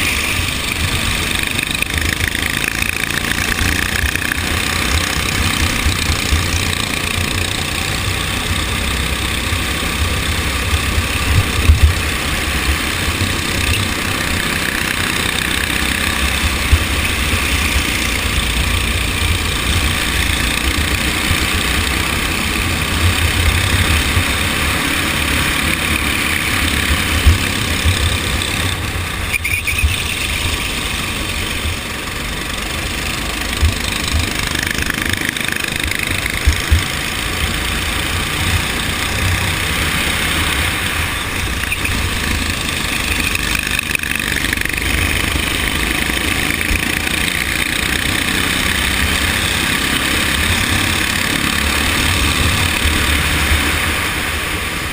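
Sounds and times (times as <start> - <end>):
go-kart engine running: 0.0 - 54.9.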